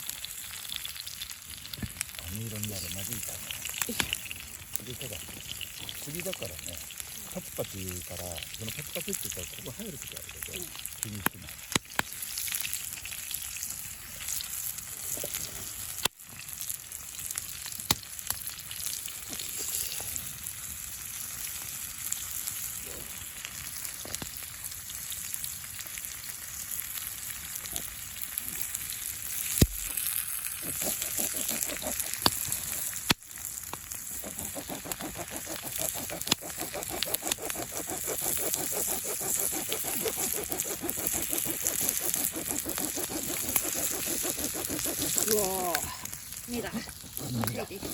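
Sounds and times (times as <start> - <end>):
food sizzling in a pan: 0.0 - 47.9
sharp pops and spatters: 0.0 - 47.9.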